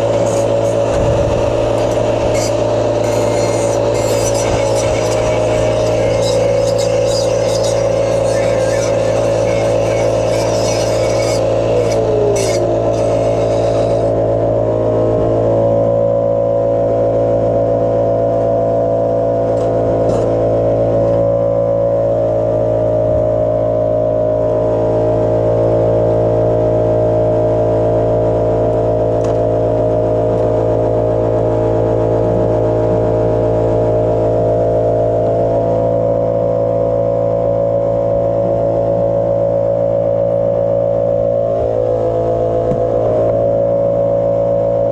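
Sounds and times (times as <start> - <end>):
machine drone: 0.0 - 44.9.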